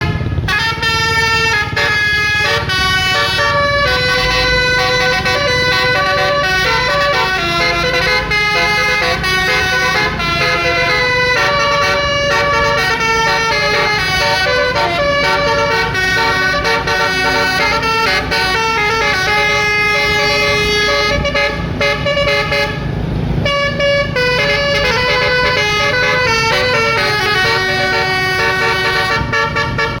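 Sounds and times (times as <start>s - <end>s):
multi-tone bus horn melody: 0.0s - 30.0s.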